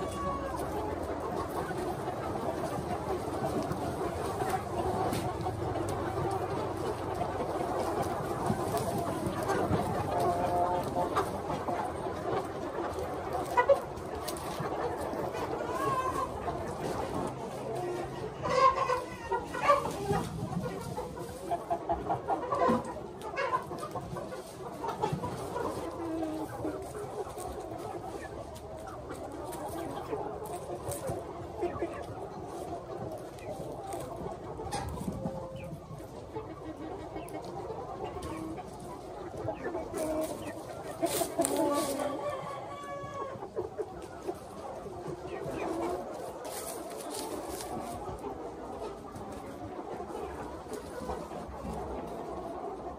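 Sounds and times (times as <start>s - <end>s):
chickens clucking and calling: 0.0s - 52.9s.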